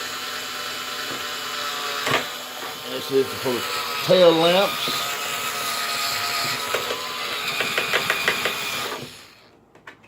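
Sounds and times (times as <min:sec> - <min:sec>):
power drill boring plastic: 0:00.0 - 0:09.5.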